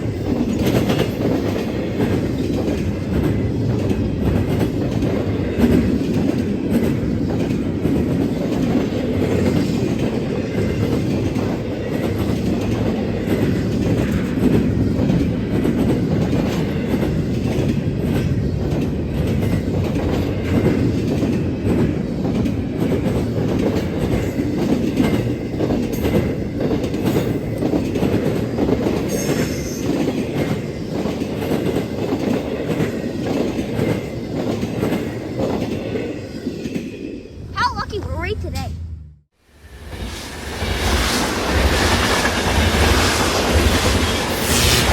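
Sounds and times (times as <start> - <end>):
freight train rumbling past: 0.0 - 37.8, 38.4 - 44.9.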